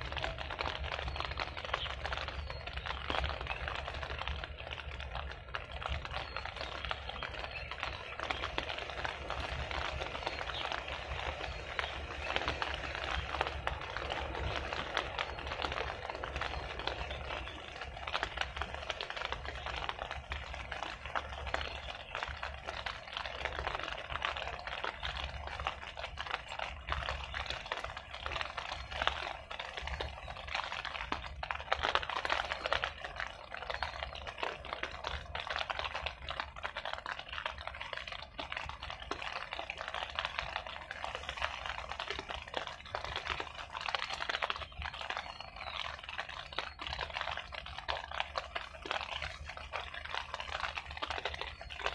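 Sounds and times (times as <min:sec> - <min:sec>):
dense patter of water: 0:00.0 - 0:51.9
wind rumble on microphone: 0:00.0 - 0:51.9.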